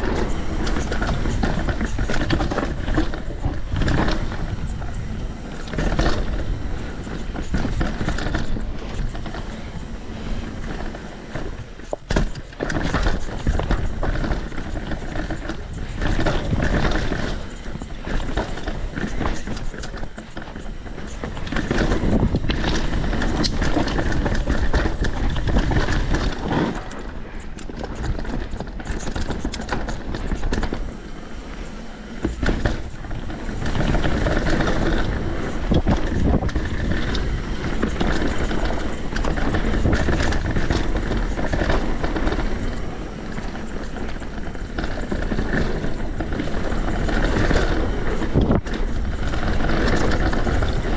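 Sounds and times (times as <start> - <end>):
rushing air rumble: 0.0 - 26.5, 28.2 - 50.9
bike rattling and knocking: 0.0 - 50.9
bike tyres rolling over rocks: 0.0 - 50.9.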